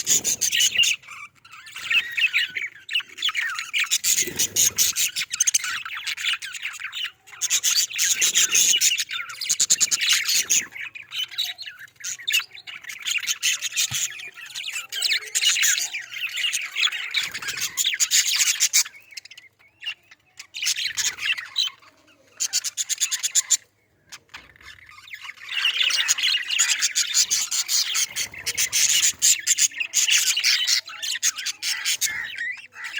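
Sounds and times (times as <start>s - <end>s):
budgerigars chattering and squawking: 0.0s - 32.9s.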